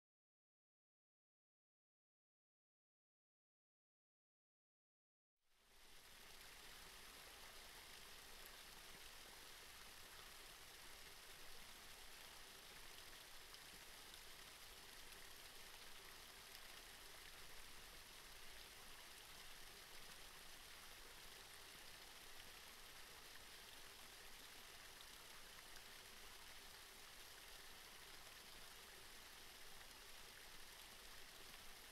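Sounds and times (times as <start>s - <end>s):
trickling water hiss: 5.5s - 31.9s.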